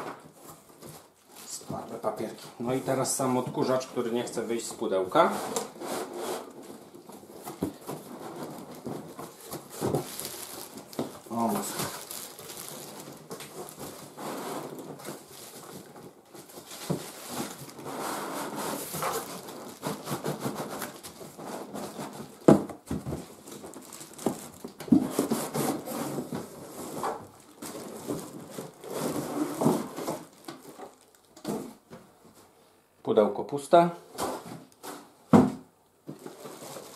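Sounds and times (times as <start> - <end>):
cardboard and plastic rustling: 0.0 - 32.6, 34.1 - 36.9.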